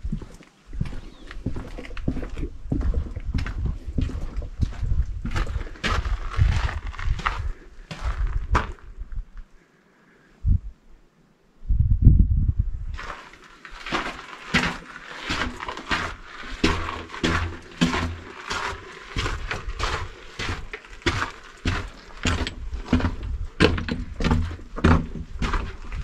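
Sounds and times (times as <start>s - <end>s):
footsteps crunching on gravel: 0.0s - 9.0s, 12.9s - 26.0s.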